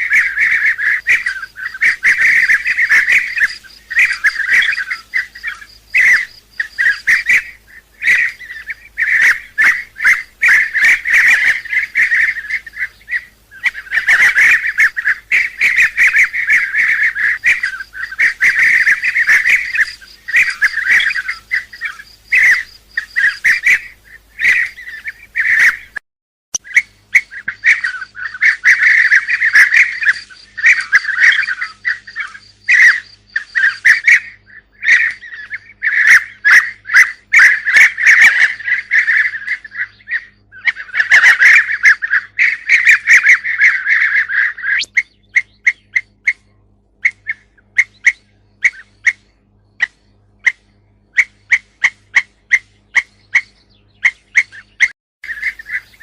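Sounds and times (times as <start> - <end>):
flock of birds calling: 0.0 - 26.0, 26.6 - 56.0.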